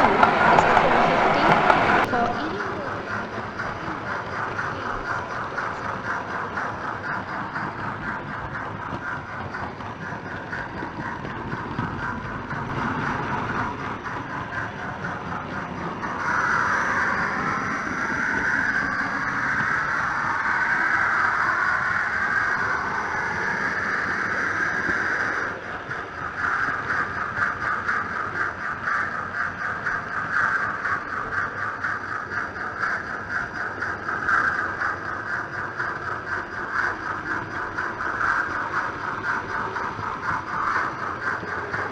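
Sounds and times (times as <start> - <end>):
locomotive sound decoder rhythm: 0.0 - 41.9
model train running on rails: 0.0 - 41.9.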